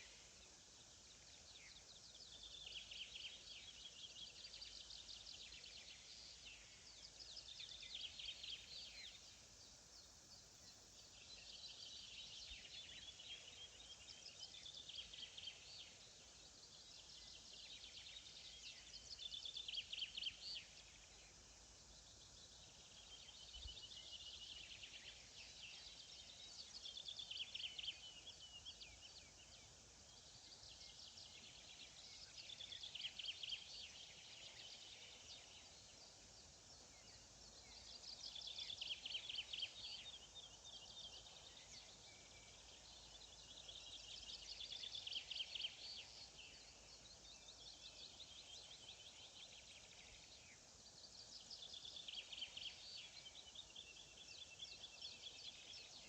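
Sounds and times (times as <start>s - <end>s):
open-air ambience hiss: 0.0s - 56.0s.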